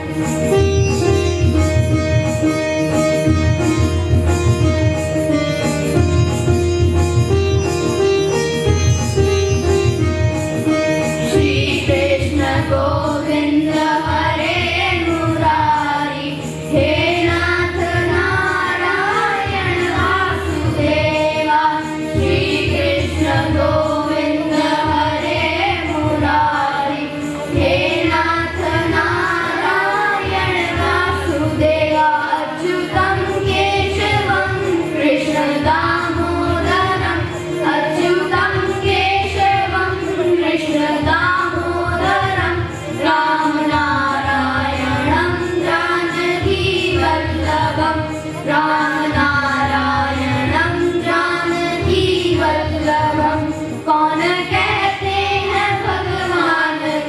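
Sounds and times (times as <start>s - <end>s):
children singing through microphones: 0.0s - 2.6s, 10.6s - 57.0s
instrumental backing music: 0.0s - 57.0s.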